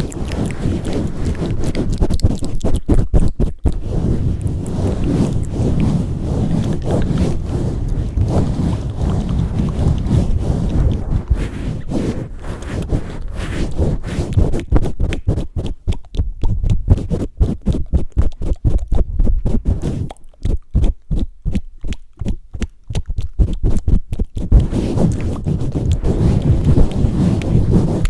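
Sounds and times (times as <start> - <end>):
hands pumping over microphone: 0.0 - 28.0
rubbing on microphone: 0.0 - 28.0.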